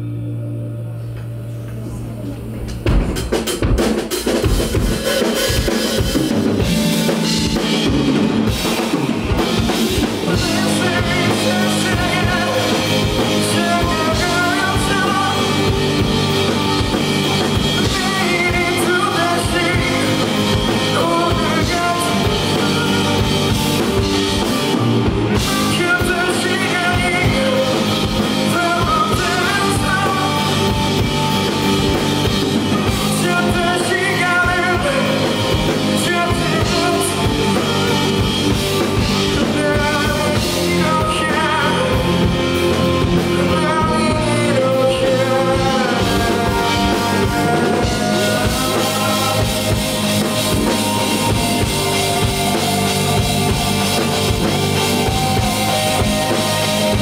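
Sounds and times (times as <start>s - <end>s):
bass guitar: 0.0s - 57.0s
drum kit: 0.0s - 57.0s
electric guitars: 0.0s - 57.0s
lead singer singing: 5.0s - 57.0s.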